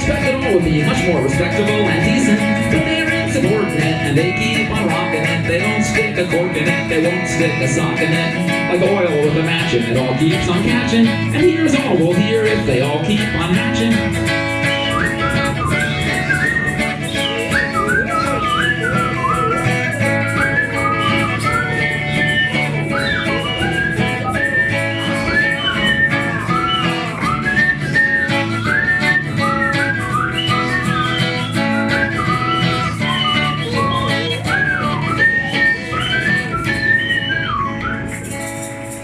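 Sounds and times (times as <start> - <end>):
bass guitar: 0.0 - 39.0
strummed guitar: 0.0 - 39.0.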